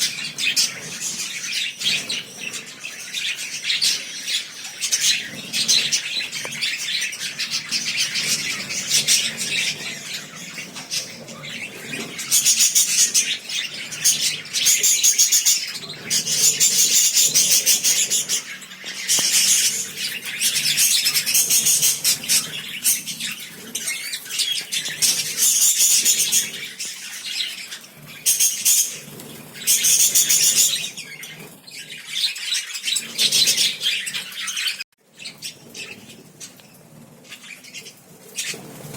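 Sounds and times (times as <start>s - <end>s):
lovebirds chattering and screeching: 0.0s - 38.9s.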